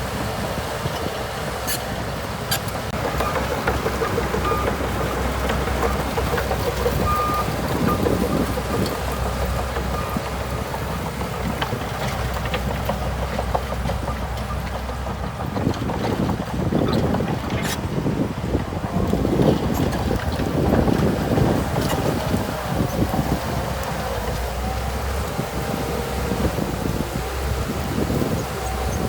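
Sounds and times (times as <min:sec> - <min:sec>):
bulldozer diesel engine: 0:00.0 - 0:29.0.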